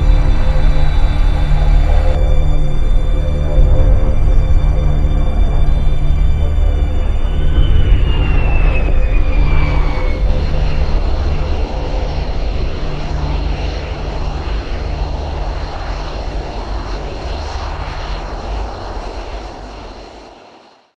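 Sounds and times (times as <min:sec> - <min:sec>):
jet engine roar: 0:00.0 - 0:20.9.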